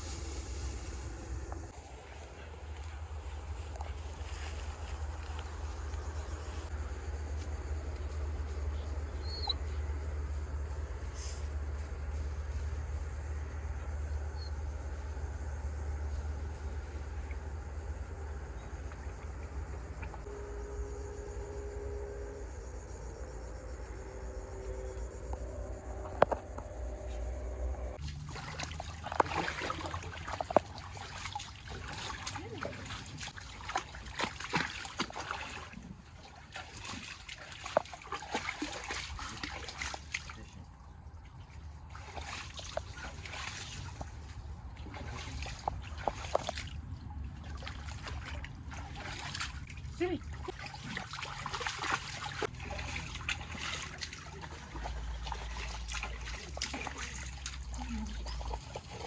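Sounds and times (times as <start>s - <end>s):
water splashing and trickling: 0.0s - 20.3s, 28.0s - 59.0s.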